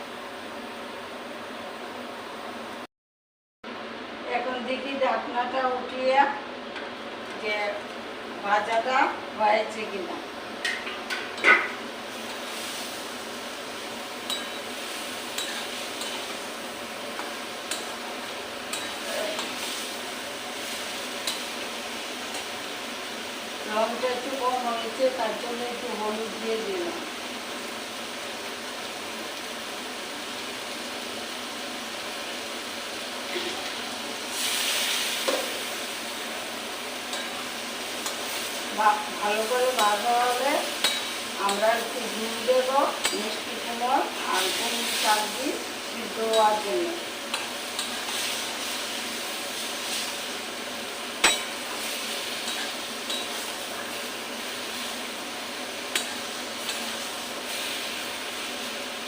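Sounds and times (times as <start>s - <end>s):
food sizzling in a pan: 3.8s - 59.0s.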